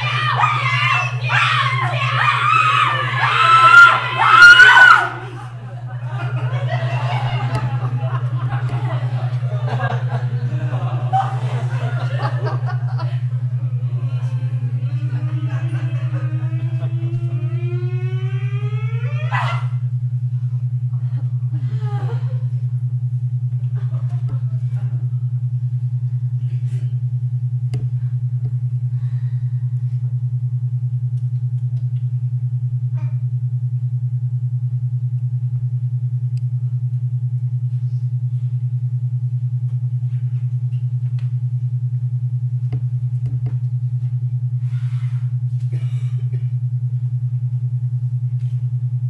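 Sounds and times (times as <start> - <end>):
low pulsing drone: 0.0 - 49.0.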